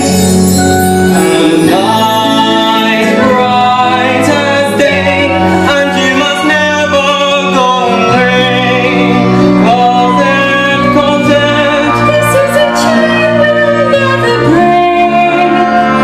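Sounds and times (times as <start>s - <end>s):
person singing slow melody: 0.0s - 16.0s
sustained instrumental accompaniment: 0.0s - 16.0s.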